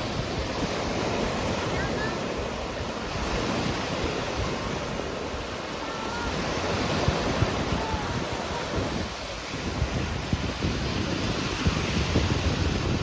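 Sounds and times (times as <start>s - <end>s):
waves washing onto beach: 0.0s - 13.0s
wind buffeting microphone: 0.0s - 13.0s.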